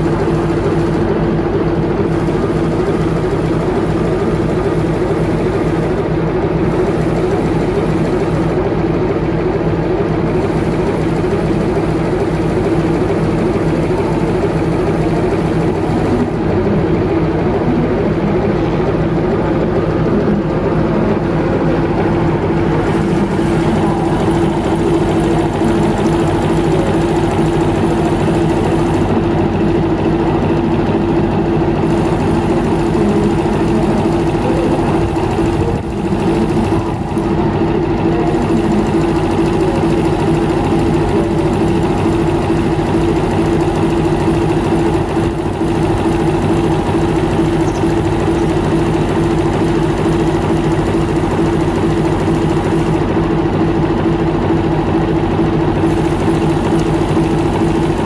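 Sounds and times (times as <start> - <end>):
constant hum: 0.0 - 58.0
diesel locomotive idling: 0.0 - 58.0.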